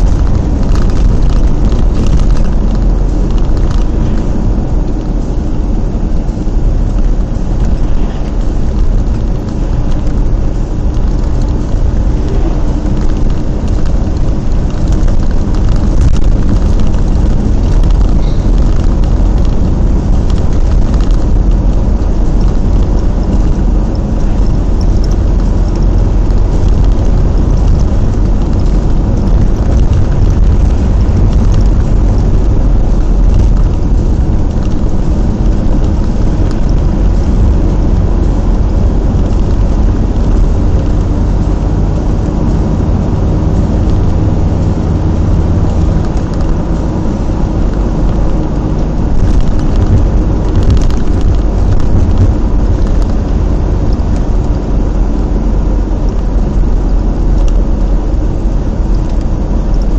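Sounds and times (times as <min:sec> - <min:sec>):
tyres on wet road: 0:00.0 - 0:59.9
vehicle engine rumble: 0:00.0 - 0:59.9.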